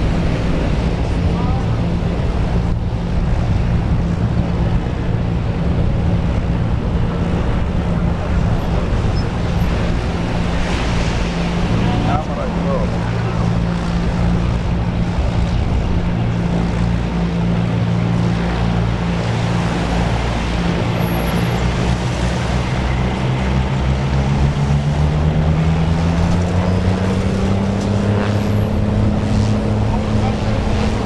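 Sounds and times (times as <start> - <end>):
propeller plane engines droning: 0.0 - 31.0.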